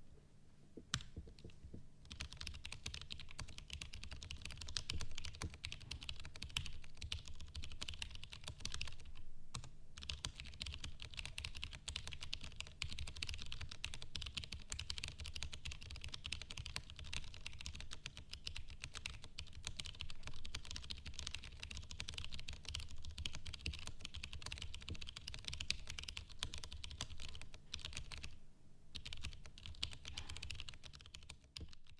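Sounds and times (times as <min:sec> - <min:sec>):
fast typing on mechanical keyboard: 0:01.0 - 0:28.4, 0:29.0 - 0:31.9.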